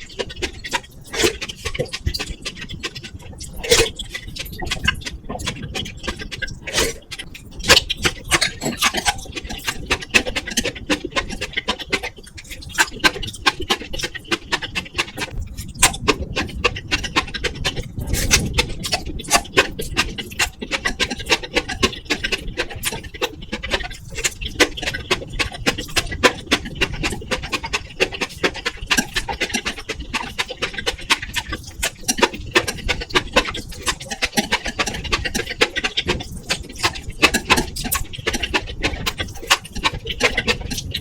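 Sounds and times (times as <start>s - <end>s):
microphone hiss and crackle: 0.0s - 41.0s
wet mouth clicks and chewing: 0.0s - 41.0s.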